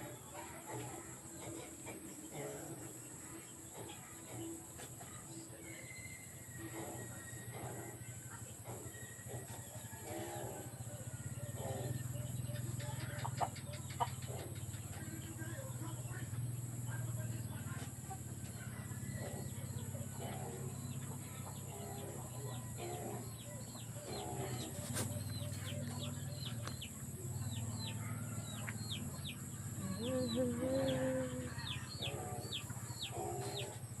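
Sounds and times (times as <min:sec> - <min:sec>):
birds chirping: 0:01.2 - 0:34.0.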